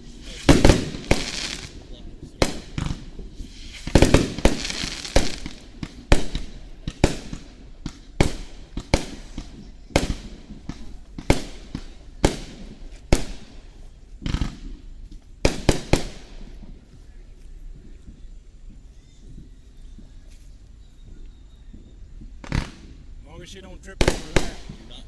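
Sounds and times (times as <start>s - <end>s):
fireworks bursting with echo: 0.0s - 25.0s.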